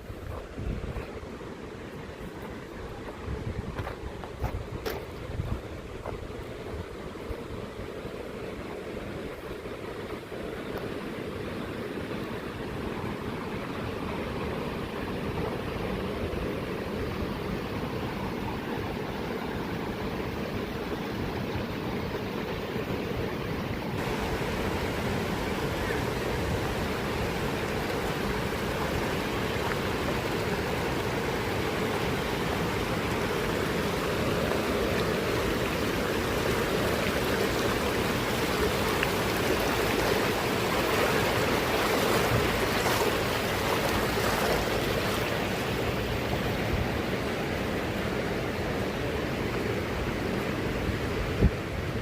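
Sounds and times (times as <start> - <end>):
mountain stream rushing: 0.0 - 52.0.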